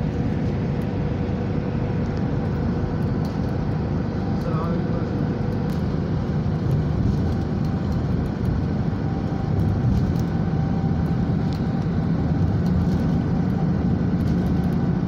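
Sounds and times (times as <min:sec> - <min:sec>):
car road noise at highway speed: 0:00.0 - 0:15.0.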